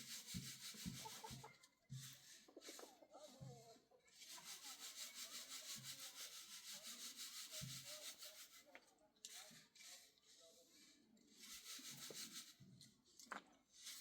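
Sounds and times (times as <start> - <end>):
hand rubbing or scraping strokes: 0.0 - 3.5, 4.2 - 8.7, 9.4 - 12.7.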